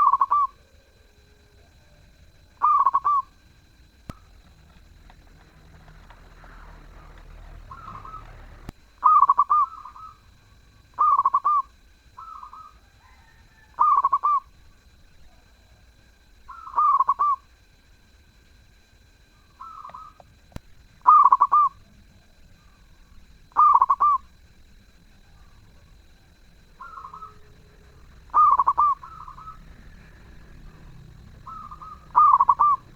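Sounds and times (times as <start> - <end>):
dove cooing: 0.0 - 3.4, 4.1 - 15.9, 16.5 - 17.4, 19.4 - 20.3, 20.9 - 32.9.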